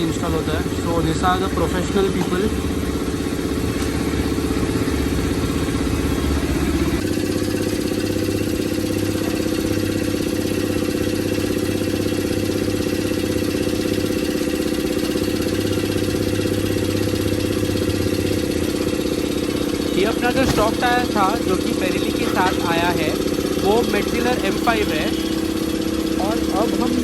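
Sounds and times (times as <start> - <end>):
engine droning: 0.0 - 27.0.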